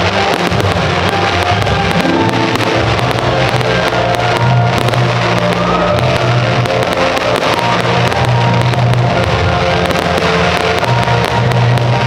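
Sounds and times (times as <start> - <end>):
fireworks crackling and popping: 0.0 - 12.0
music with bass line: 0.0 - 12.0.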